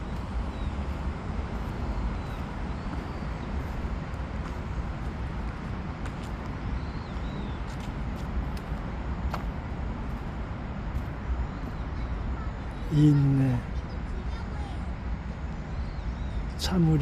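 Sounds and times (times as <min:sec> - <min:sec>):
road traffic rumble: 0:00.0 - 0:15.5.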